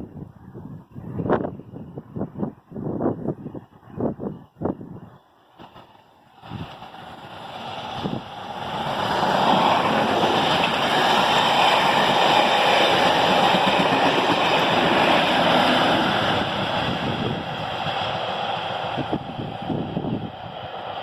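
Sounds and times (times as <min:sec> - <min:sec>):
diesel train passing: 0:01.3 - 0:21.0.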